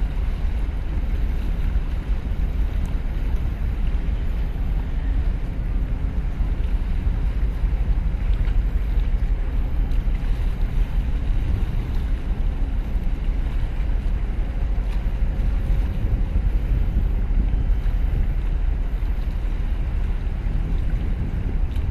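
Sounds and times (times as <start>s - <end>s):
deep hum of ship: 0.0s - 21.9s
wind buffeting microphone: 0.0s - 21.9s.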